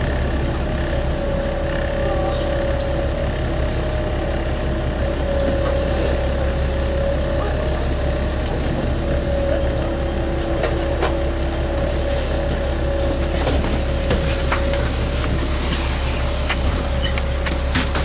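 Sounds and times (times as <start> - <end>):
constant whine: 0.0 - 18.0
diesel engine drone: 0.0 - 18.0
lower whine: 0.0 - 18.0
clicks and rattles from train: 1.8 - 6.2, 7.2 - 18.0.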